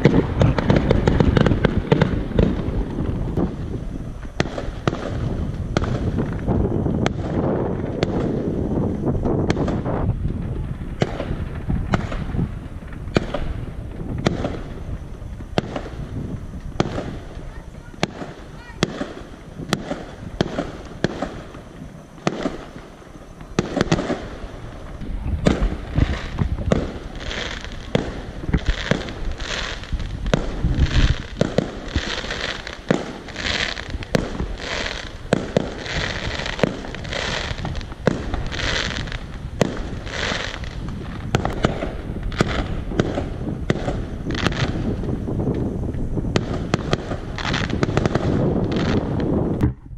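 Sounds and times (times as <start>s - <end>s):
fireworks crackling hisses: 0.0s - 49.6s
fireworks bangs: 0.0s - 49.9s.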